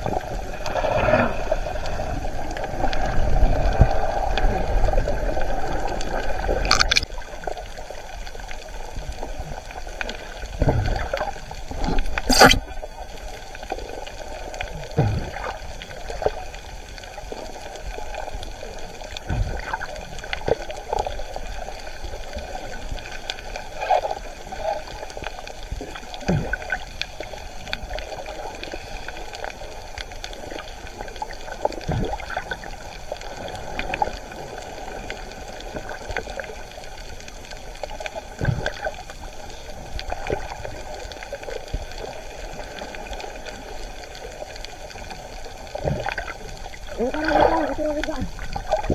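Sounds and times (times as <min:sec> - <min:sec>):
muffled underwater rush: 0:00.0 - 0:48.9.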